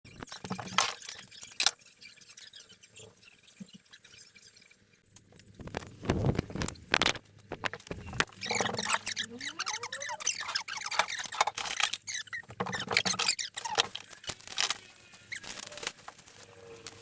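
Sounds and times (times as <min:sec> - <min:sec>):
small objects rustling and clattering: 0:00.1 - 0:17.0.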